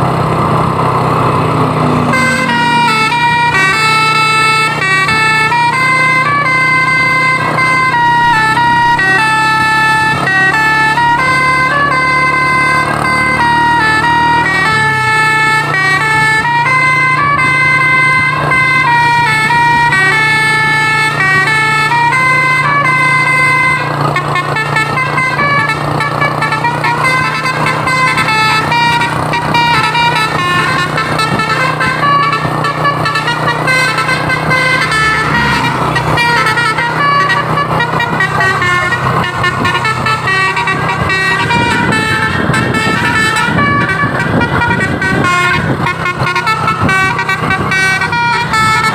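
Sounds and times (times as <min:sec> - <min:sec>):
bus air horn melody: 0:00.0 - 0:48.9
traffic: 0:00.0 - 0:48.9.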